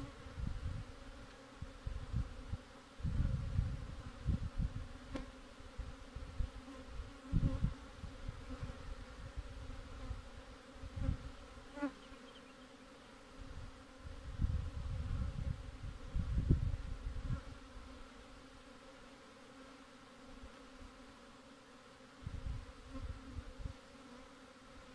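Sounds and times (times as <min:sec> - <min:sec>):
honeybees buzzing: 0:00.0 - 0:24.9.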